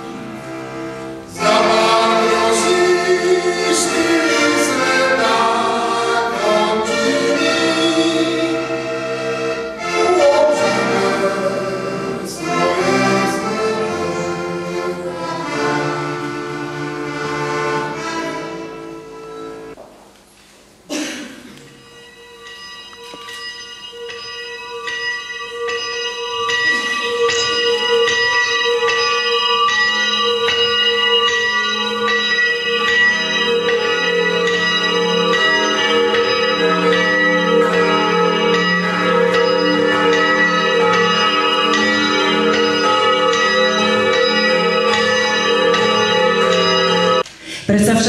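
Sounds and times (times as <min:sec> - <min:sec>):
church bells ringing: 0:00.0 - 0:19.8, 0:21.3 - 0:47.3.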